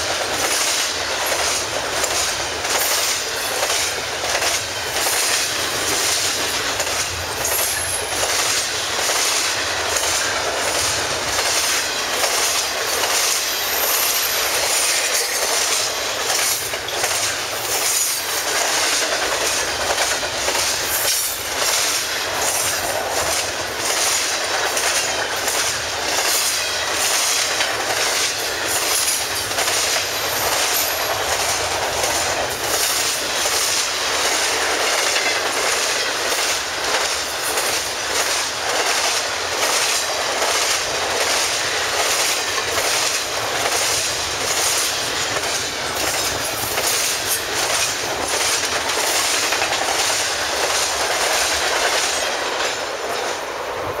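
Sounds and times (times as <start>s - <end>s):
clickety-clack over rail joints: 0.0s - 54.0s
freight train wheels on rail: 0.0s - 54.0s.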